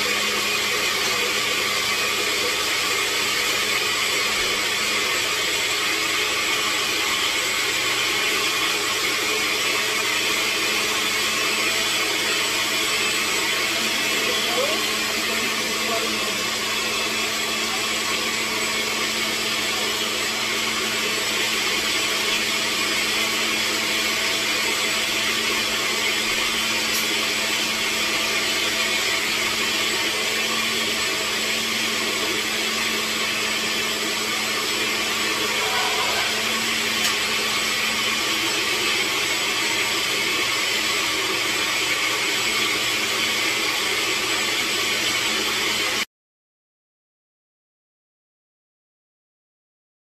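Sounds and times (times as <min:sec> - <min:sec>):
blender running: 0:00.0 - 0:46.1.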